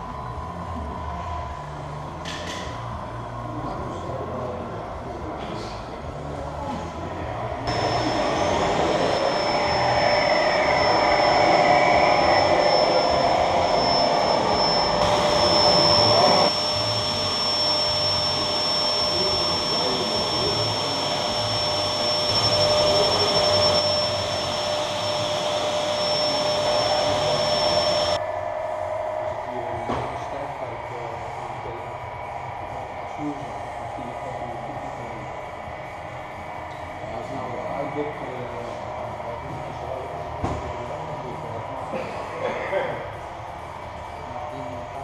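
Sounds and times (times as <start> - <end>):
electric whine with hum: 0.0 - 42.0.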